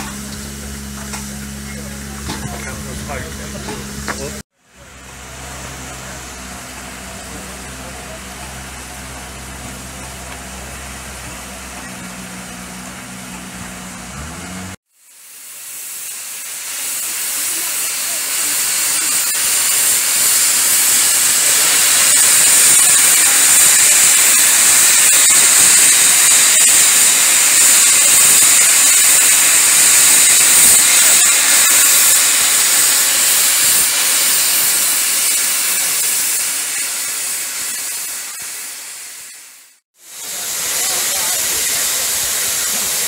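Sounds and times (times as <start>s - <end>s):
steam hissing from safety valves: 0.0s - 43.0s.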